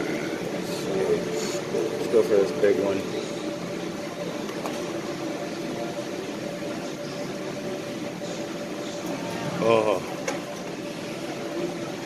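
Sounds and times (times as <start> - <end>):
claw machine mechanical hum: 0.0 - 12.0.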